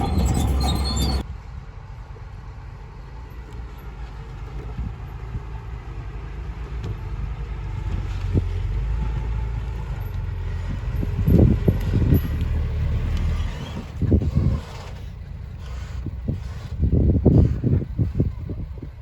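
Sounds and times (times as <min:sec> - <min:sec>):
heavy vehicle engine rumble: 0:00.0 - 0:19.0.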